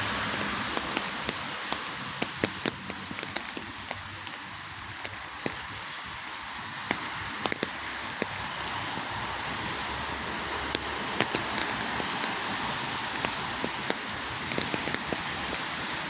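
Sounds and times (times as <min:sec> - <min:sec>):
drops ticking close by: 0:00.0 - 0:16.0
steady rain falling: 0:00.0 - 0:16.0.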